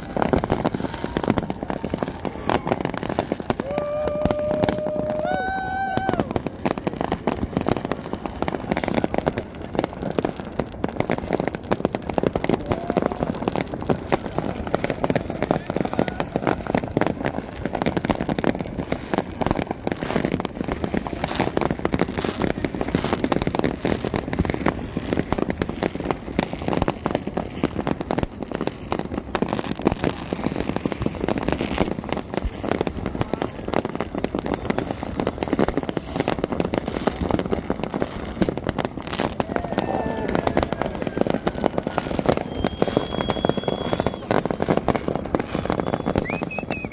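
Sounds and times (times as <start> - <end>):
fireworks and firecrackers crackling: 0.0 - 46.9.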